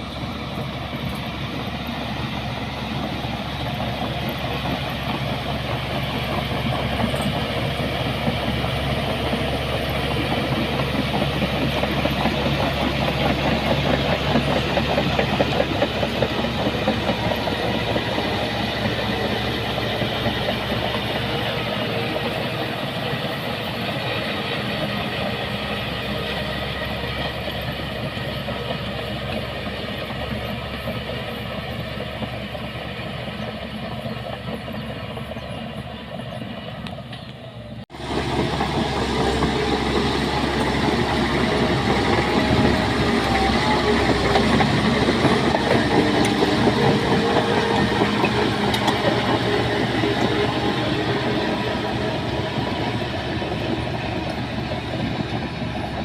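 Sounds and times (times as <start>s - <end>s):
bulldozer diesel engine: 0.0s - 56.0s
tracks clanking: 0.0s - 56.0s.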